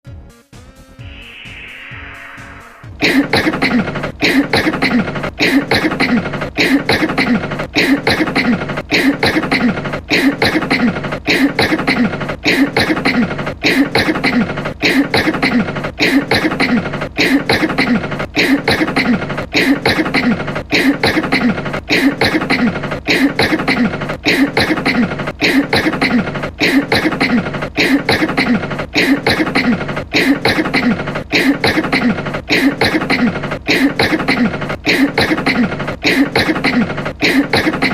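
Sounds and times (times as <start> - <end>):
person coughing: 3.0 - 37.9.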